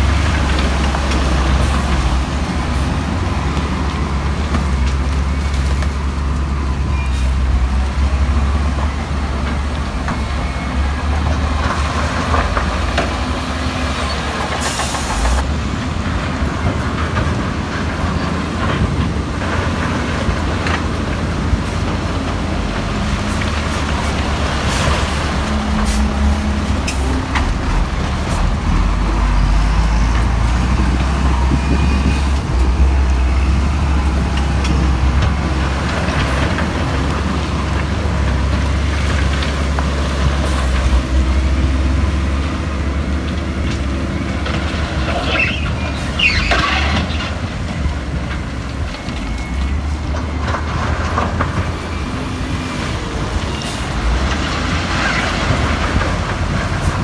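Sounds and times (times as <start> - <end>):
heavy machinery diesel engine rumbling: 0.0 - 57.0.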